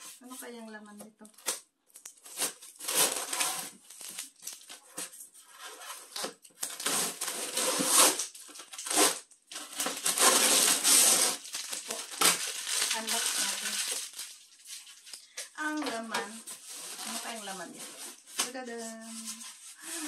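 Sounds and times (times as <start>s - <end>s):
packing tape pulled and torn: 1.3s - 15.2s, 15.8s - 19.7s.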